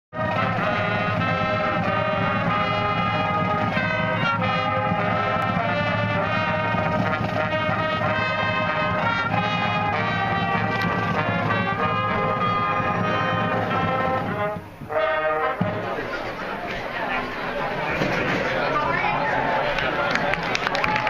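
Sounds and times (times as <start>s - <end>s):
brass band playing slow chords: 0.1s - 18.8s.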